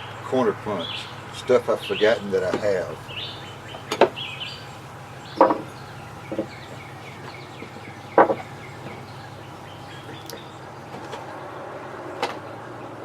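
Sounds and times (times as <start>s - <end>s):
steady low hum: 0.0s - 12.9s
faint birds chirping: 0.0s - 13.0s.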